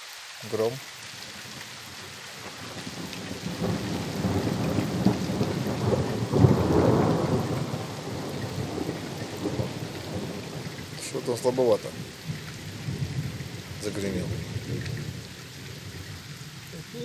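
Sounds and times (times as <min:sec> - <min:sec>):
steady rain hiss: 0:00.0 - 0:17.0
thunder rumbling: 0:01.2 - 0:17.0.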